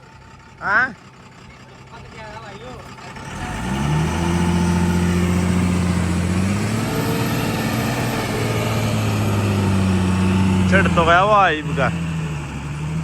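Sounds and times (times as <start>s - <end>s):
diesel engine revving under load: 0.0s - 13.0s.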